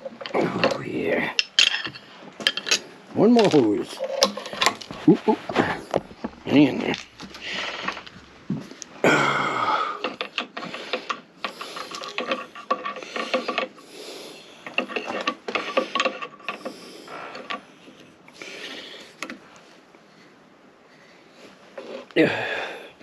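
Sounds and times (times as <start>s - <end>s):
hand tools clicking and scraping metal: 0.0s - 19.4s.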